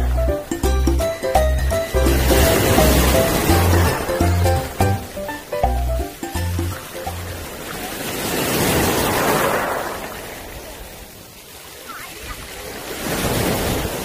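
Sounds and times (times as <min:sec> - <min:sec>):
small waves washing on pebbly shore: 0:01.9 - 0:14.0.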